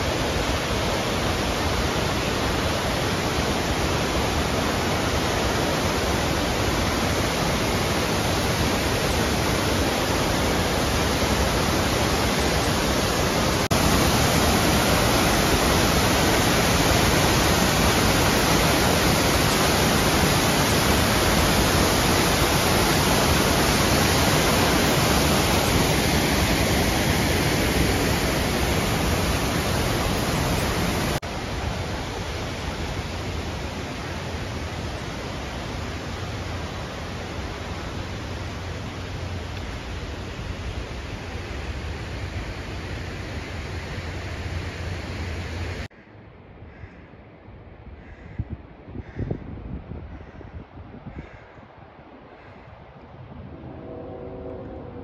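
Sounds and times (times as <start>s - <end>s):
waterfall rushing: 0.0s - 45.9s
creek rushing: 0.0s - 46.0s.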